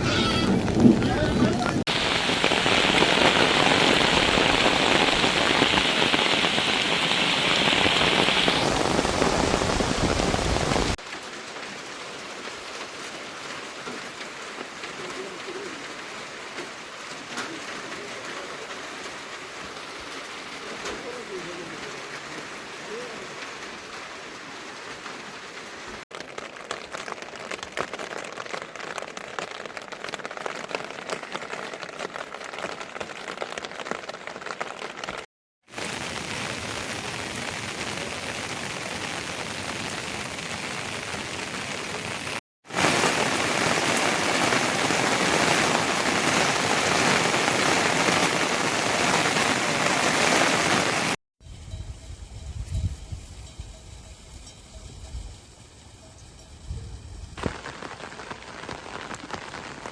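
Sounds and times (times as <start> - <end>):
heavy rain falling: 0.0 - 51.2, 57.0 - 59.9.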